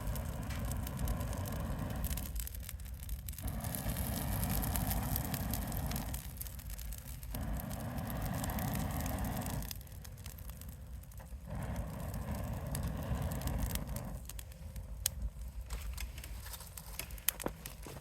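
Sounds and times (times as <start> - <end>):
campfire crackling: 0.0 - 18.0
sharp pops from fire: 0.0 - 18.0.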